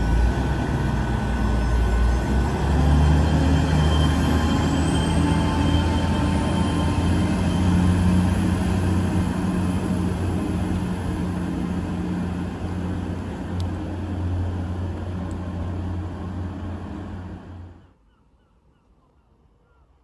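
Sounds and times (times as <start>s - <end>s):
train rumbling on rails: 0.0s - 17.9s.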